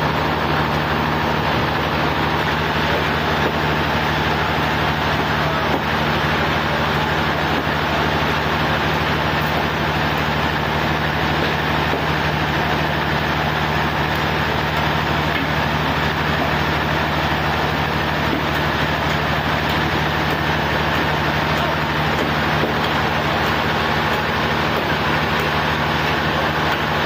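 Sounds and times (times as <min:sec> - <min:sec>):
sawmill engine droning: 0:00.0 - 0:27.0.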